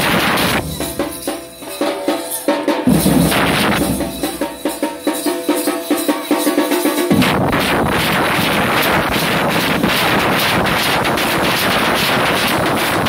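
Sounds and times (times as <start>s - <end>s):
crashing percussion: 0.0s - 13.0s
metal shakers: 0.0s - 13.0s
steel drums beating: 0.0s - 13.0s.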